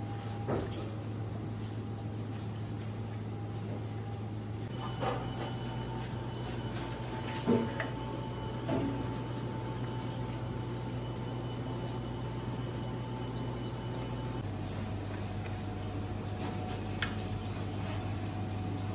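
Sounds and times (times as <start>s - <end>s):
machine hum with high whine: 0.0s - 18.9s.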